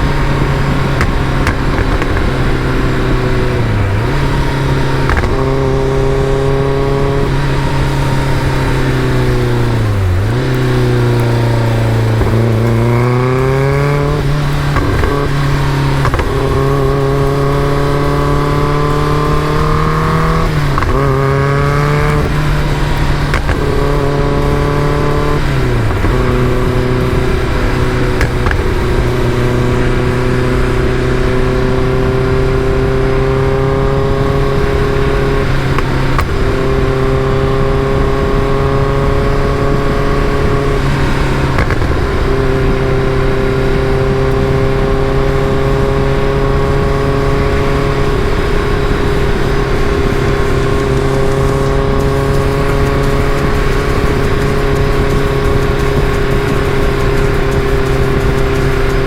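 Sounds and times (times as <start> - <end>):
car engine pulling under load: 0.0 - 59.0.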